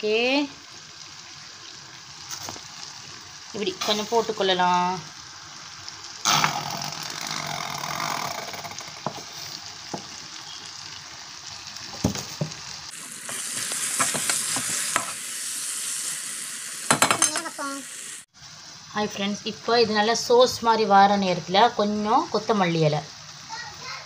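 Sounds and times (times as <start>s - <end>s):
vegetables sizzling in a frying pan: 0.0s - 24.0s.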